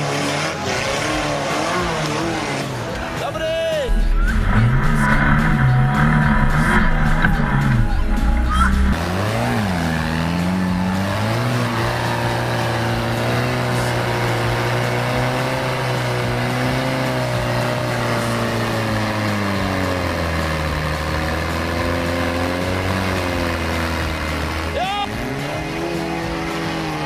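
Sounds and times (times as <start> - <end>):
buggy engine at low revs: 0.0 - 27.0.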